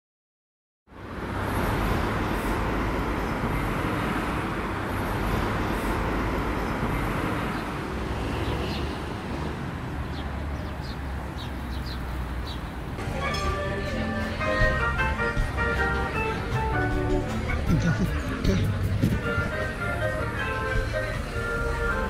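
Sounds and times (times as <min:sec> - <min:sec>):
road traffic rumble: 0:00.9 - 0:22.0.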